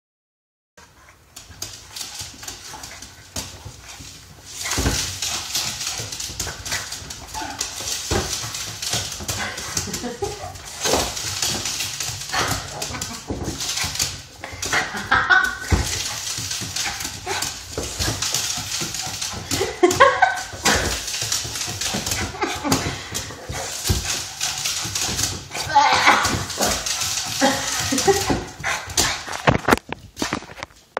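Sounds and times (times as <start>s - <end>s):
dog claws clicking on wood floor: 1.3s - 30.9s.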